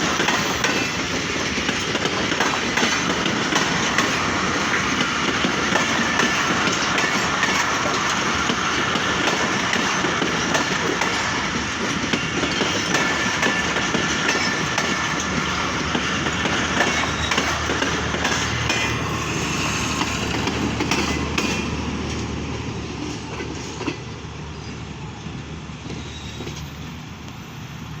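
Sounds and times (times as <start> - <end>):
wheels clattering over rail joints: 0.0 - 24.7
train wagons rolling on rails: 0.0 - 28.0.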